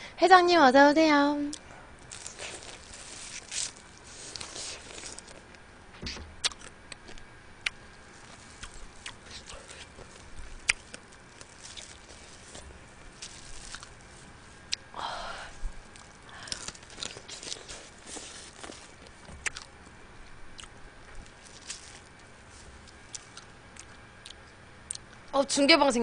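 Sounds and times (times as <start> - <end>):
chewing and sucking crab: 1.5 - 5.8, 6.4 - 25.3.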